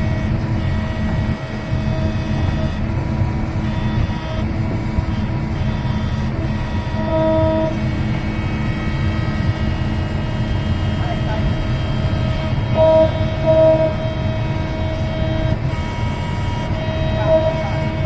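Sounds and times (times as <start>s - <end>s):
diesel engine deep rumble: 0.0s - 18.0s
hydraulic whine: 0.0s - 18.0s.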